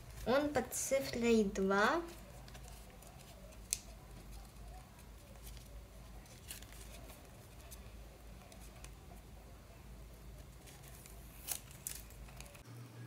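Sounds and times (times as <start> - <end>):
paper and tape rustling: 0.0 - 9.4, 10.1 - 12.6.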